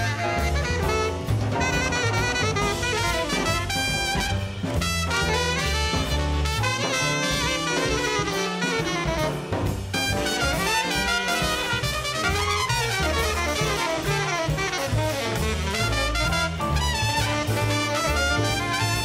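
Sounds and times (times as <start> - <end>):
double bass: 0.0 - 19.0
drums: 0.0 - 19.0
saxophone: 0.0 - 19.0
trumpet: 0.0 - 19.0.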